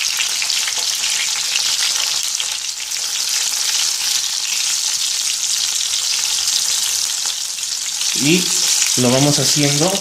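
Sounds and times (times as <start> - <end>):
hot oil sizzling in a frying pan: 0.0 - 10.0.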